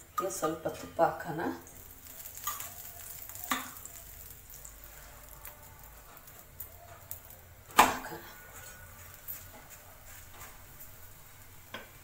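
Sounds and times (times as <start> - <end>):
ghee crackling on hot iron: 0.0 - 12.0.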